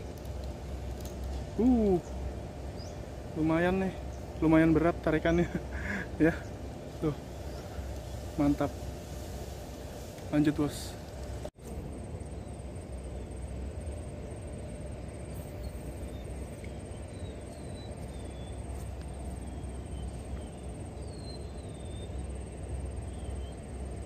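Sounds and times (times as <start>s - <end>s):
faint high insect trill: 0.0s - 24.0s
steady low rumble: 0.0s - 24.0s.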